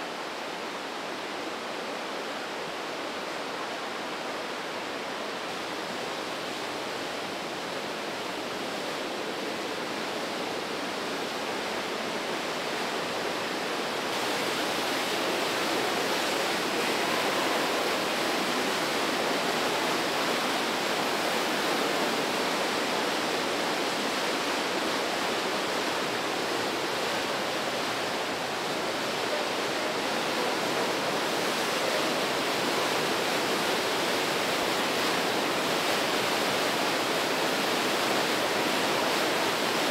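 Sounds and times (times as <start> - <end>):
river rushing through gorge: 0.0 - 39.9.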